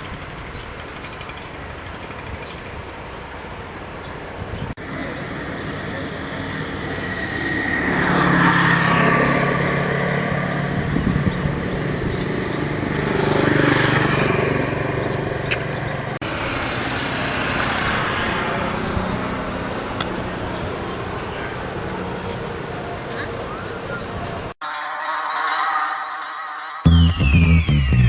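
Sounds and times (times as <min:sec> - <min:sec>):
road vehicles passing by: 0:00.0 - 0:24.6.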